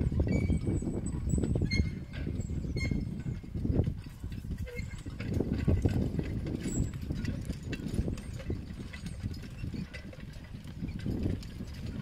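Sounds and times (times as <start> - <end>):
light harness clinks: 0.4 - 12.0.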